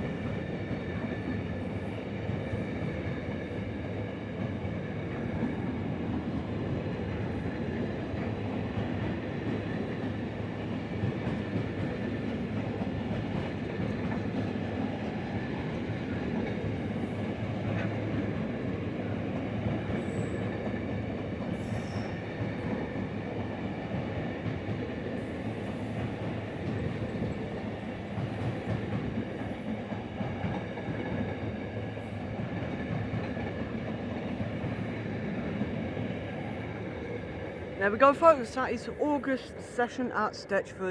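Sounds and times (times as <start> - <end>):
train wheels rumbling and clattering: 0.0 - 38.4.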